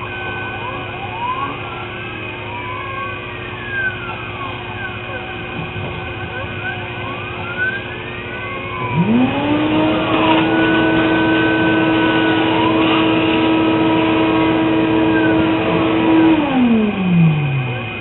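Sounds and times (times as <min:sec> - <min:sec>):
mill motors whining: 0:00.0 - 0:18.0.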